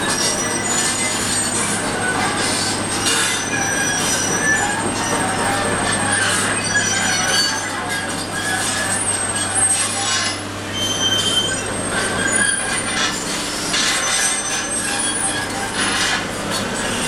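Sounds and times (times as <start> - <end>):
short high squeals and screeches: 0.0 - 16.3.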